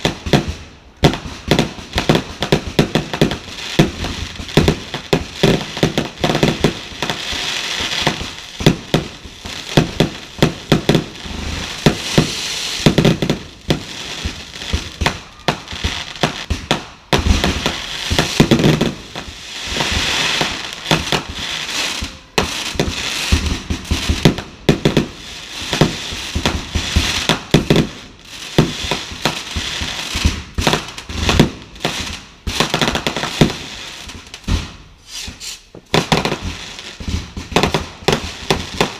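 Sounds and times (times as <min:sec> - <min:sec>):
fireworks crackling: 0:00.0 - 0:38.9
fireworks loud bangs: 0:00.0 - 0:38.9.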